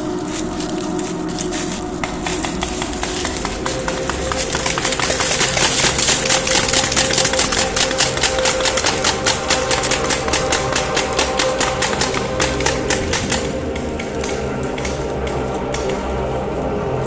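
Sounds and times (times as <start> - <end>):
music with held tones: 0.0 - 17.0
fast sharp clicks: 2.0 - 16.0.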